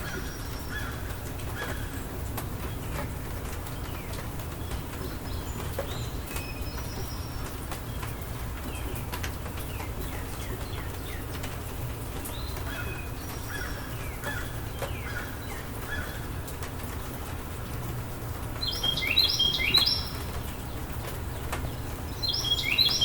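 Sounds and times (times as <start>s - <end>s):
birds chirping: 0.0s - 23.0s
raindrops ticking: 0.0s - 23.0s
steady rain: 0.0s - 23.0s.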